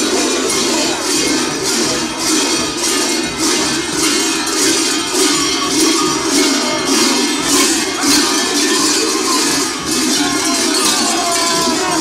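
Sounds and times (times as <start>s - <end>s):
cowbells jangling and clanging: 0.0s - 12.0s.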